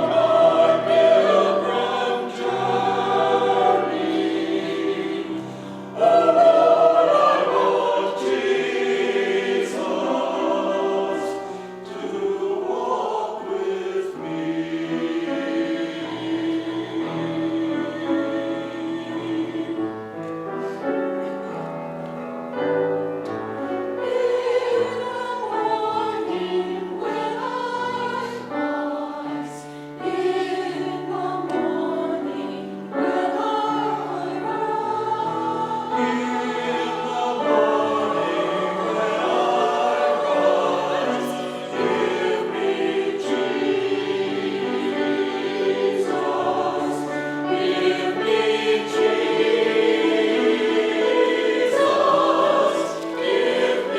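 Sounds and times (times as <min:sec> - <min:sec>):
choir singing: 0:00.0 - 0:21.8, 0:22.5 - 0:53.9.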